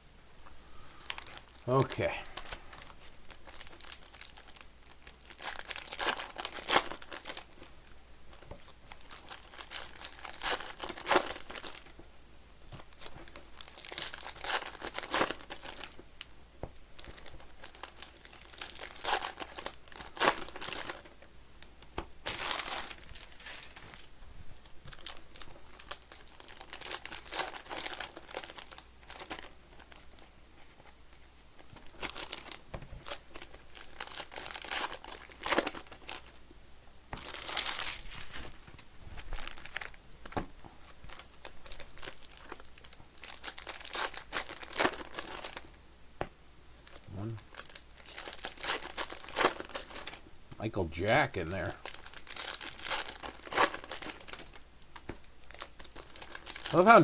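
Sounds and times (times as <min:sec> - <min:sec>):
card pack wrappers tearing and crinkling: 0:01.0 - 0:12.0, 0:12.8 - 0:16.0, 0:17.0 - 0:21.2, 0:22.2 - 0:24.1, 0:24.9 - 0:30.2, 0:31.6 - 0:36.4, 0:37.1 - 0:45.7, 0:46.8 - 0:57.0.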